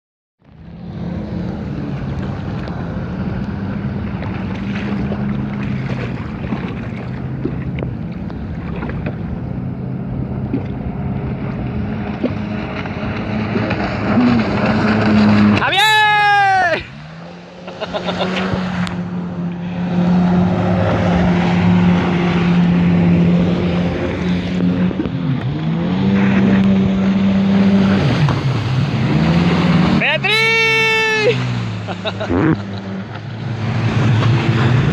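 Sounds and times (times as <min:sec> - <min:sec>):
jet ski engine running: 0:00.4 - 0:34.9.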